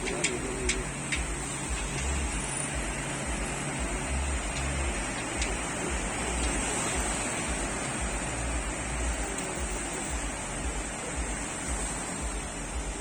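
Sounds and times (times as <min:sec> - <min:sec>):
low rumble: 0:00.0 - 0:13.0
sea waves breaking ashore: 0:00.0 - 0:13.0.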